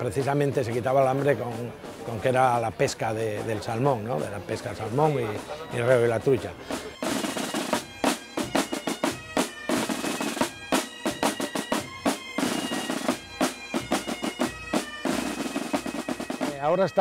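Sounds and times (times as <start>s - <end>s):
bagpipe melody: 0.0s - 17.0s.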